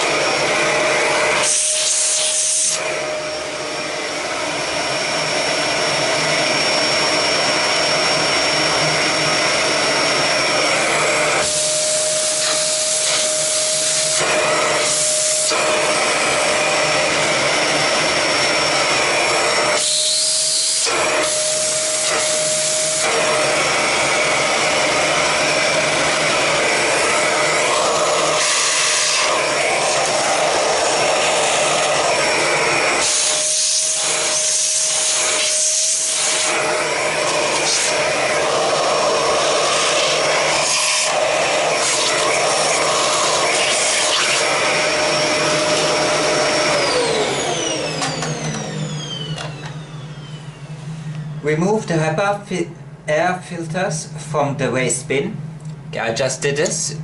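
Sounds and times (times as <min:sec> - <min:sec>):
whistling airflow: 0:00.0 - 0:51.8
vacuum cleaner running: 0:00.0 - 0:57.0.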